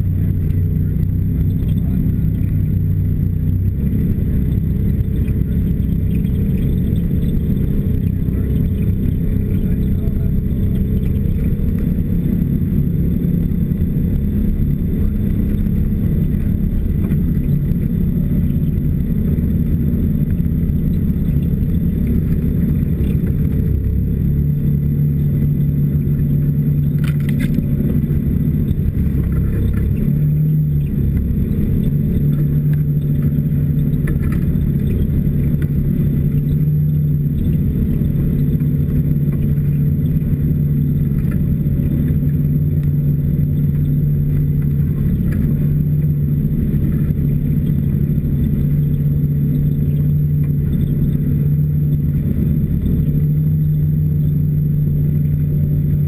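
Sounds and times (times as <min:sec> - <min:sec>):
snowmobile engine droning: 0:00.0 - 0:56.0.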